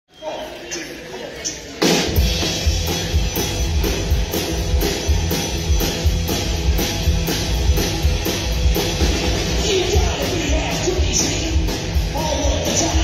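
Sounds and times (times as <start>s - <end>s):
live band playing instrumental: 1.6s - 13.0s.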